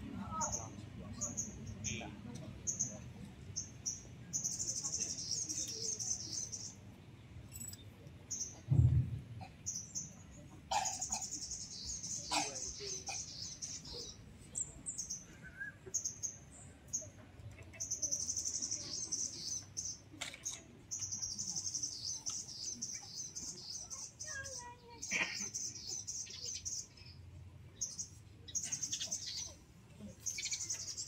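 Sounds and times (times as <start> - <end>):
small birds chirping and trilling: 0.2 - 8.7, 9.4 - 31.0.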